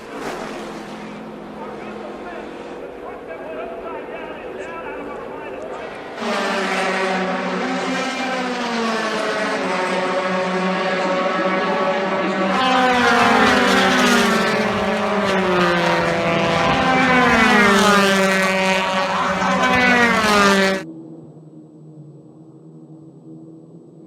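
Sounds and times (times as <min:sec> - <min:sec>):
race car engines revving: 0:00.0 - 0:20.9
steady engine hum: 0:00.0 - 0:24.0.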